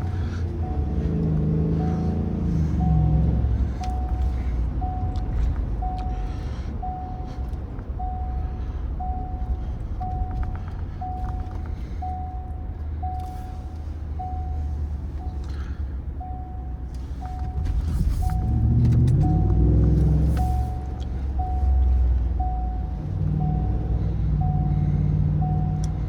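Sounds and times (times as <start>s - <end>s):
electronic warning chime: 0.0s - 15.4s, 16.2s - 26.0s
truck engine rumbling: 0.0s - 26.0s.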